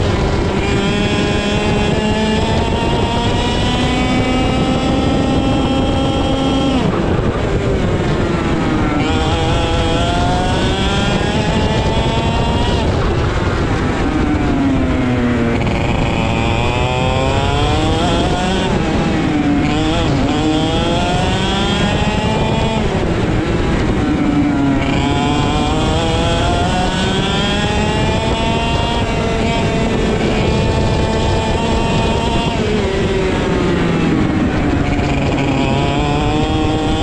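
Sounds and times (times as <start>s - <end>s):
kart engine running hard: 0.0s - 37.0s
wind on microphone: 0.0s - 37.0s.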